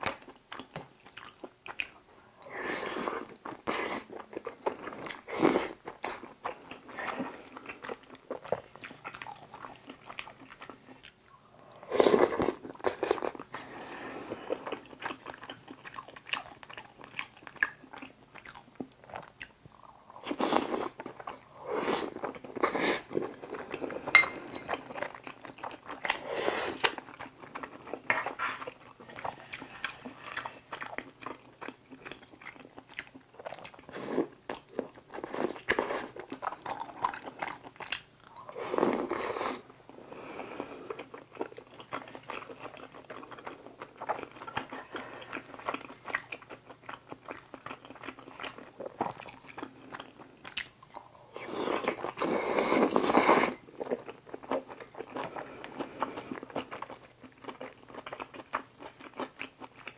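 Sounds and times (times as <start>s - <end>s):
chewing chewy food: 0.0s - 59.9s.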